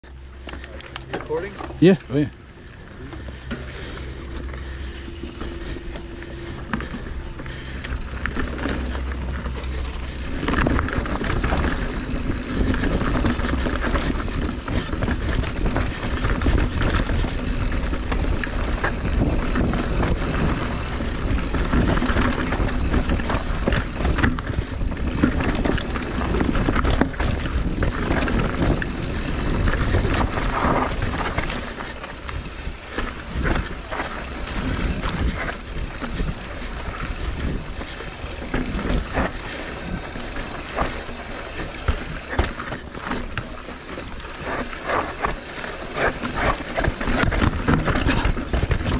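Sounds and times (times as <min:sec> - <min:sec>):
bike rattling over bumps: 0:00.0 - 0:48.9
bike tyres rolling on dirt: 0:00.0 - 0:48.9.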